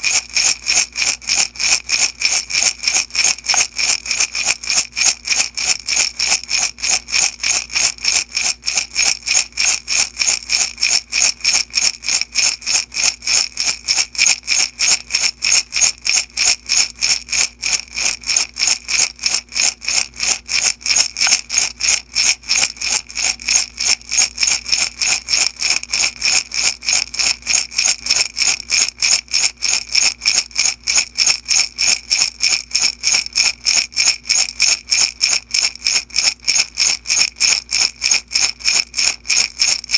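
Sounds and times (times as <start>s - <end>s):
beads rattling in glass jar: 0.0s - 39.9s.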